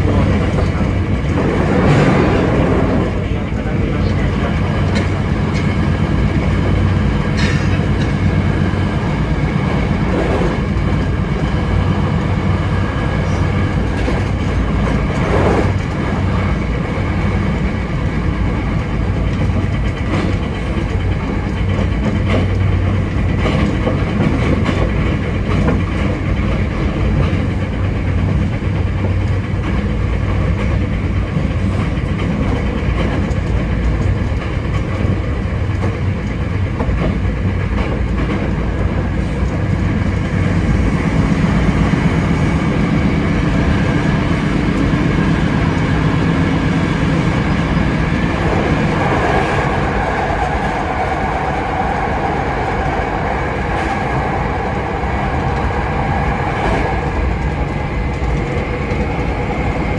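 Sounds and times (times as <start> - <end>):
electric train hum: 0.0 - 59.9
train wheels clattering over rail joints: 0.0 - 59.9.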